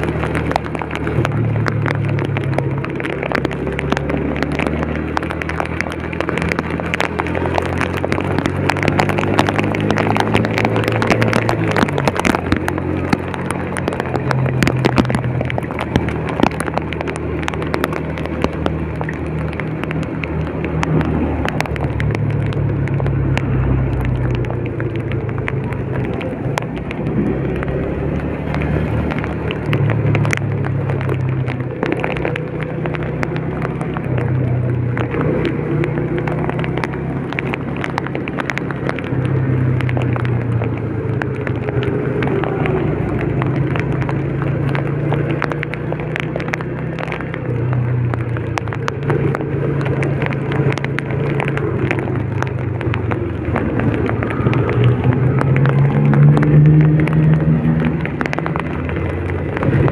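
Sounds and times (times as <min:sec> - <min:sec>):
raindrops ticking on vehicle: 0:00.0 - 0:59.9.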